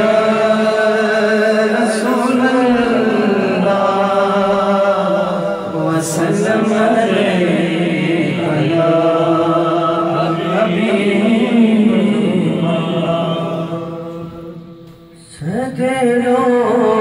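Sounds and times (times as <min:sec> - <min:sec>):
men chanting: 0:00.0 - 0:17.0.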